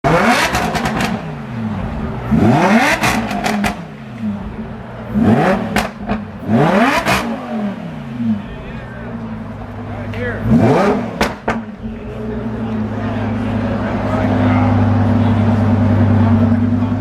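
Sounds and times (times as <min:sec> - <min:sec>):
car engine revving with crackles: 0:00.0 - 0:17.0.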